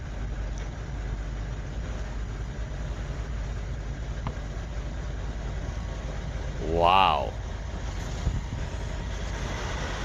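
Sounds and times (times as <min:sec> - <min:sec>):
suv engine running at low speed: 0:00.0 - 0:10.0.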